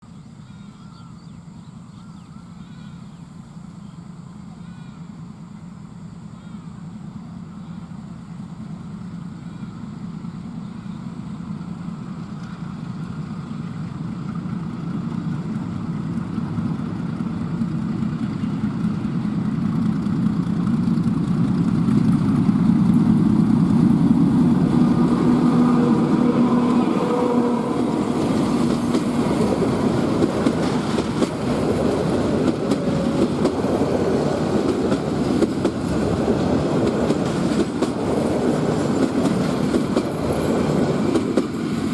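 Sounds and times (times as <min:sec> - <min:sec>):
diesel locomotive engine running: 0:00.0 - 0:41.9
train coaches rumbling on rails: 0:00.0 - 0:41.9.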